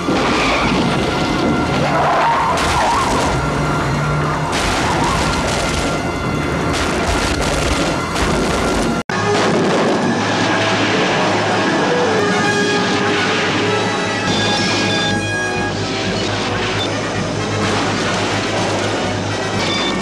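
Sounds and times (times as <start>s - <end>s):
tv music score: 0.6s - 20.0s.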